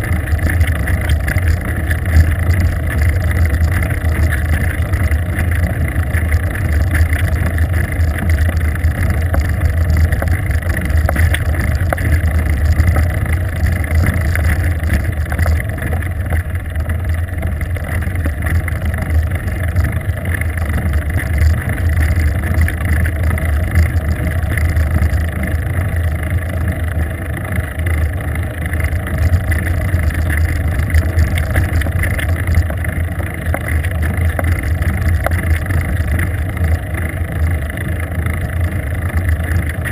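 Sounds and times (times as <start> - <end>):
wind and road vibration rumble: 0.0 - 39.9.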